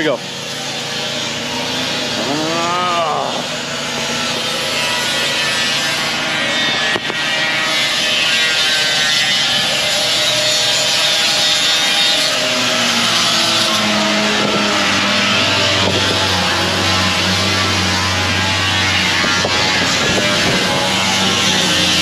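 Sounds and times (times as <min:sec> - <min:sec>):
power sander whining: 0:00.0 - 0:22.0.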